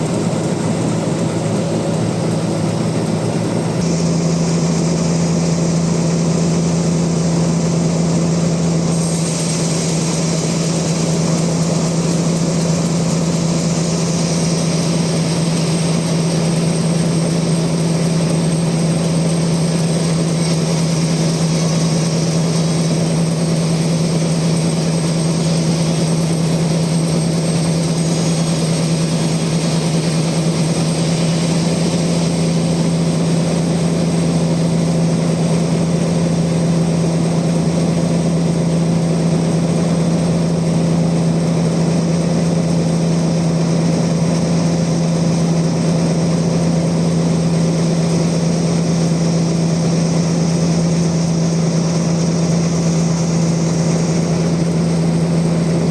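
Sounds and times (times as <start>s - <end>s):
band sawmill droning: 0.0s - 55.9s.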